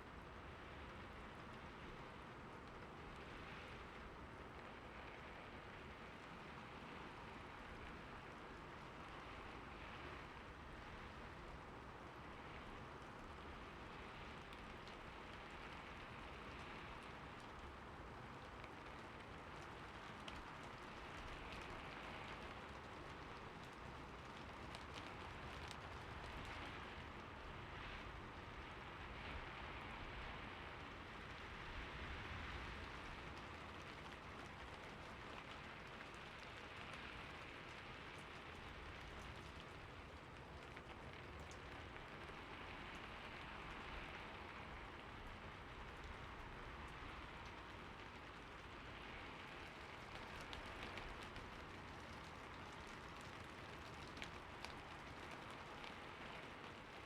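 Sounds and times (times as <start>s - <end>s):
low city rumble: 0.0s - 57.0s
soft rain hiss: 0.0s - 57.0s
faint rain drop ticks: 0.1s - 57.0s.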